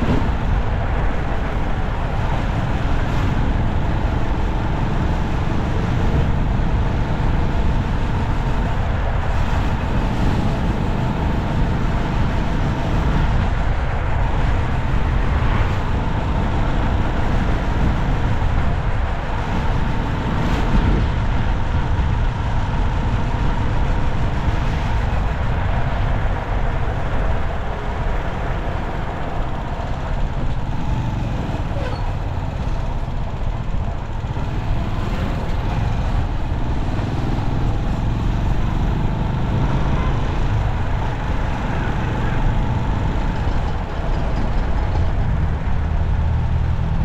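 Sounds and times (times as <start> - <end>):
road traffic deep rumble: 0.0 - 47.0.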